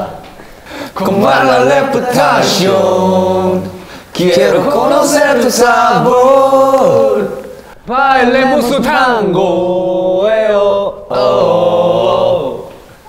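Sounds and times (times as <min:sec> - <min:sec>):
man singing unaccompanied: 0:00.9 - 0:12.8.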